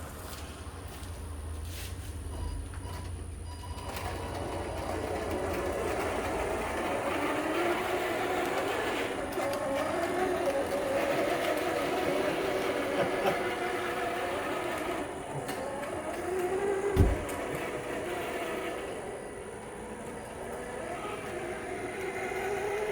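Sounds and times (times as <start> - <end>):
electric motors whining: 2.3 - 22.9.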